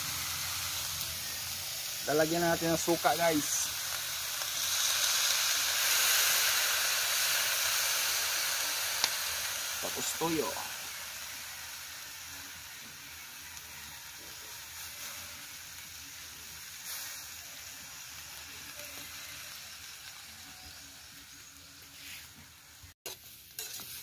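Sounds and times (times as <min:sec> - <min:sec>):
chicken sizzling in a hot pan: 0:00.0 - 0:24.0.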